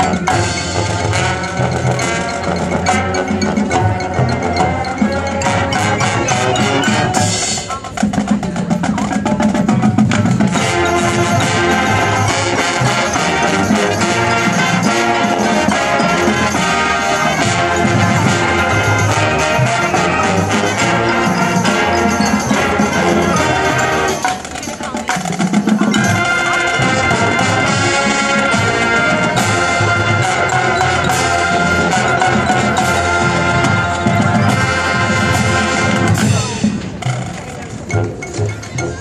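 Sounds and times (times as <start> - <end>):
marching band brass: 0.0 - 38.5
drums and percussion: 0.0 - 39.0.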